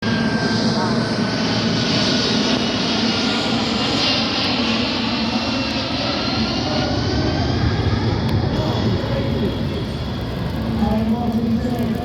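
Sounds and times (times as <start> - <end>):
aircraft engines running: 0.0 - 12.0.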